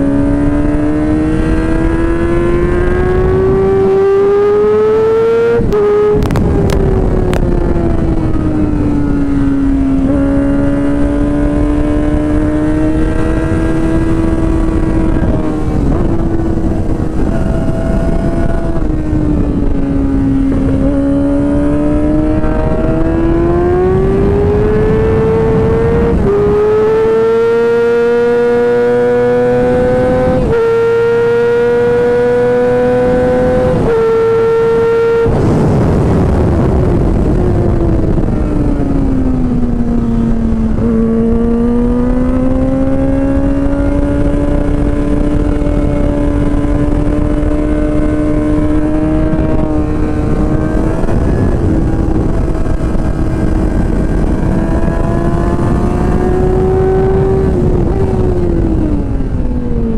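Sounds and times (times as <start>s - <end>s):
motorcycle engine at speed: 0.0s - 59.9s.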